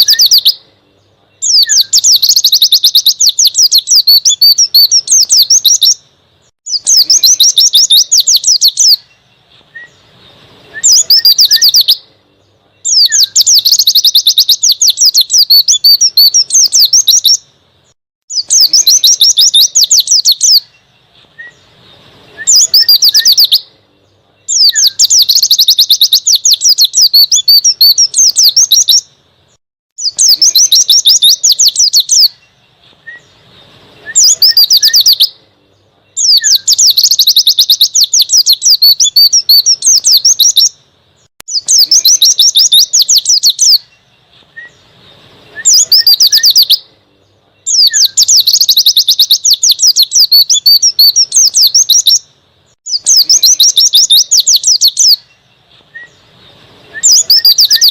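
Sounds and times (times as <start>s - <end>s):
bird twittering: 0.0s - 6.1s, 6.7s - 35.4s, 36.0s - 57.9s.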